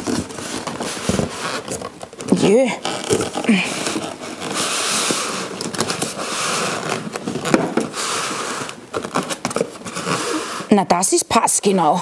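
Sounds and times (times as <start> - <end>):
styrofoam scraping cardboard: 0.0 - 10.9.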